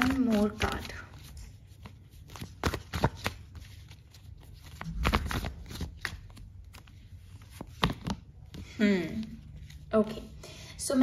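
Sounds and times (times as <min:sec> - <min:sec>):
cards being shuffled: 0:00.0 - 0:10.2.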